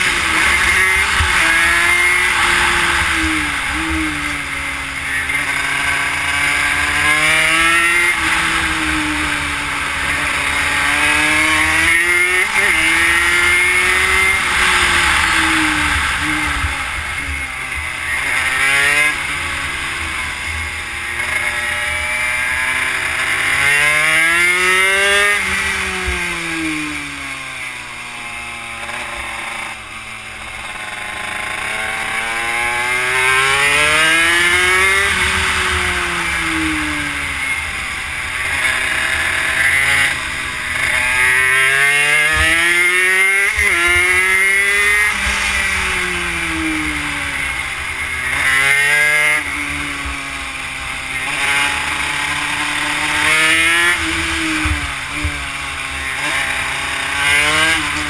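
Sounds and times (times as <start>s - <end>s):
two-stroke minibike engine revving: 0.0s - 58.0s.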